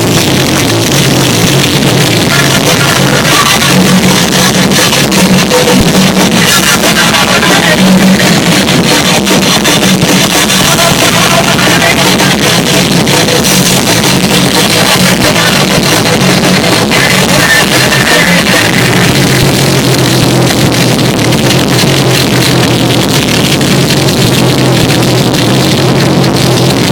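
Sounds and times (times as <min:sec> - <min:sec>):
loud rock music with guitar: 0:00.0 - 0:26.9.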